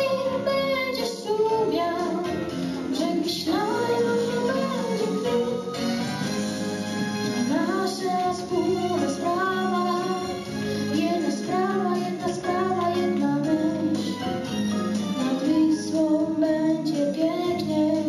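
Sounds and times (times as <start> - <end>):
child singing into microphone: 0.0 - 5.7, 7.5 - 10.4, 11.0 - 14.1, 15.2 - 18.0
instrumental accompaniment: 0.0 - 18.0.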